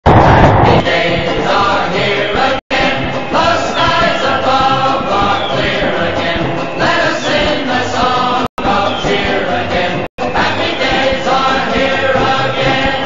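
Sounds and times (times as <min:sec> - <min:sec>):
choir singing with accompaniment: 0:00.1 - 0:13.0.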